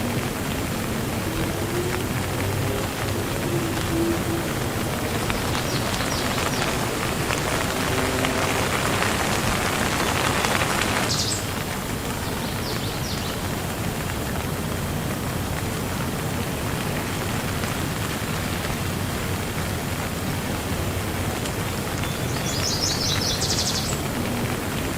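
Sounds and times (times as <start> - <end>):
rain patter: 0.0 - 24.9.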